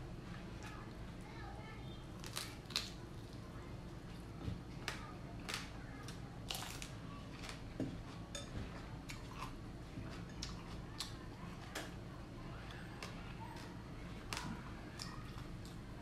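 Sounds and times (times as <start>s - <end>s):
crunchy chewing: 2.2s - 16.0s.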